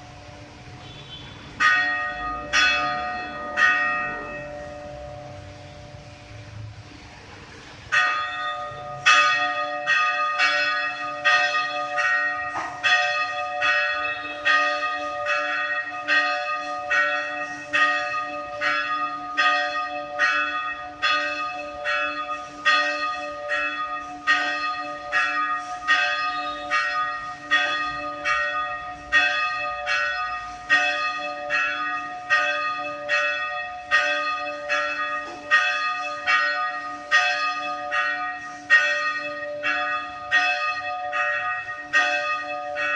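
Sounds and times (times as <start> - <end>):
church bells ringing a peal: 1.5 - 6.5, 7.8 - 42.9.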